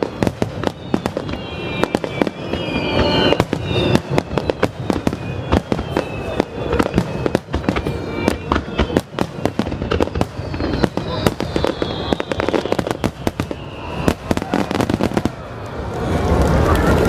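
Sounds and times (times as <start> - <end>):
high descending whistling tones: 0.0 - 15.9
fireworks bangs and cracks: 0.0 - 17.0.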